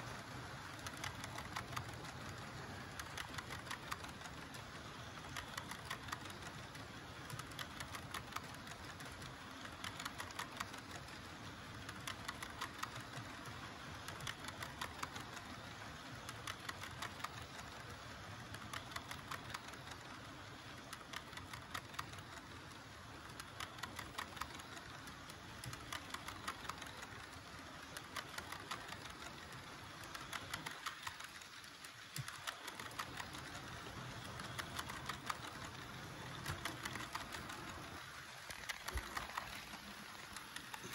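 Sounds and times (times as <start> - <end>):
model train wheels clicking: 0.0 - 40.9
steady running hum: 0.0 - 40.9.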